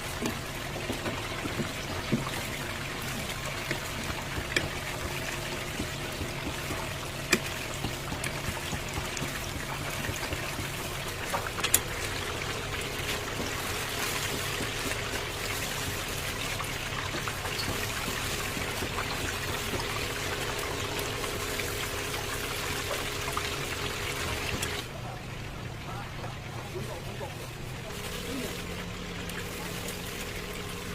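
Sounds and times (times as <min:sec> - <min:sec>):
chicken sizzling in hot oil: 0:00.0 - 0:24.9, 0:27.4 - 0:30.9
oil popping: 0:00.0 - 0:24.9.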